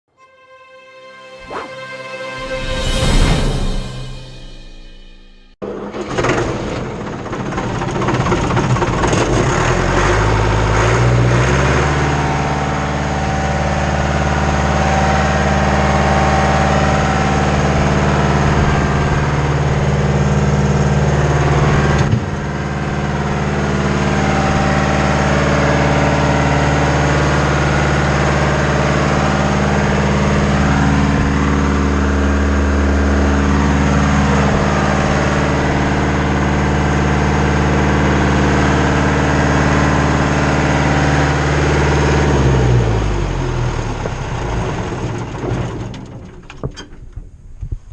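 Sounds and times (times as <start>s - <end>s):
concrete pump engine running: 5.6s - 46.3s.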